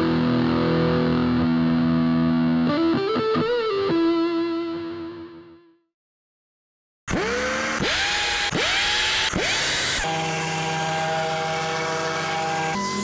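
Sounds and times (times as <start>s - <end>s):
distorted electric guitar: 0.0s - 5.8s, 7.6s - 13.0s.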